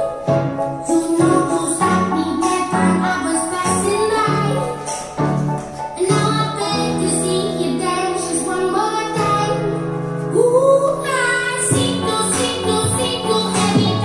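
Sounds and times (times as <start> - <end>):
recorded song with singing: 0.0 - 14.0.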